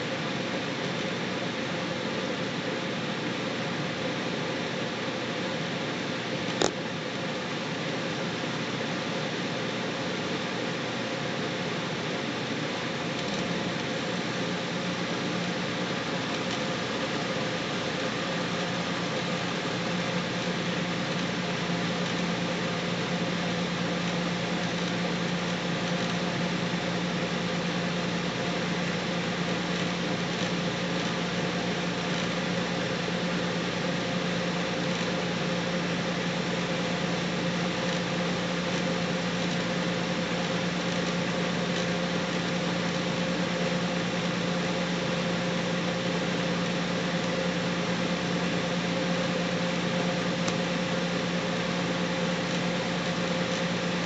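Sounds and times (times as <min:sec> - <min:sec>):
machine hum with hiss: 0:00.0 - 0:54.0.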